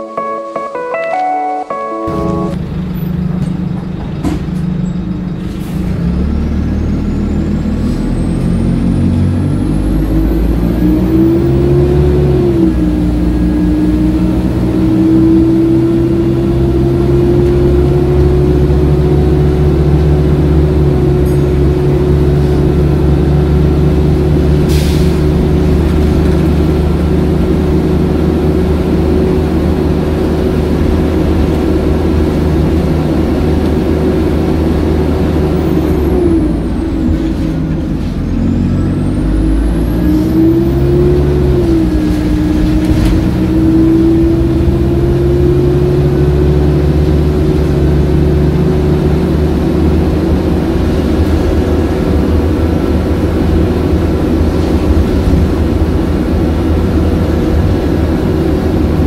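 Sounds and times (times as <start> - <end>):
bus diesel engine under load: 0.0 - 59.0
engine whine: 0.0 - 59.0.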